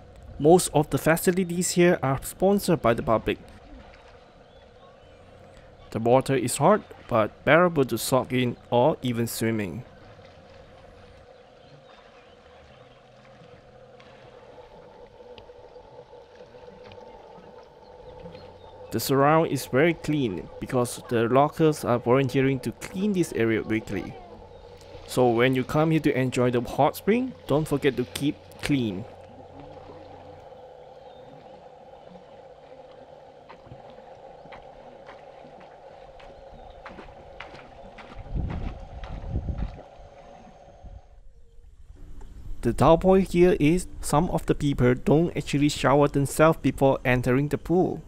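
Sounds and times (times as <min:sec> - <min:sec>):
water rushing: 0:00.0 - 0:41.1.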